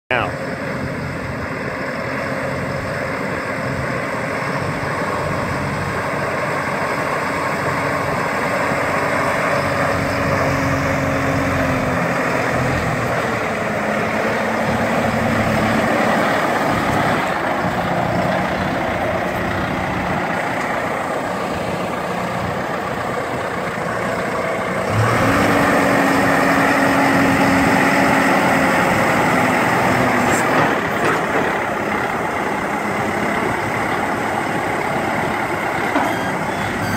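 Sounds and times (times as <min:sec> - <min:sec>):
tractor diesel engine running: 0:00.1 - 0:36.9.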